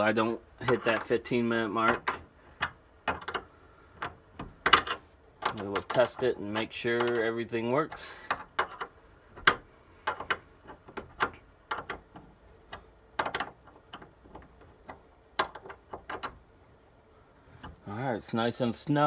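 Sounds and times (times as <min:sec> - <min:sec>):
clicks and knocks of tightening wire: 0:00.6 - 0:16.5.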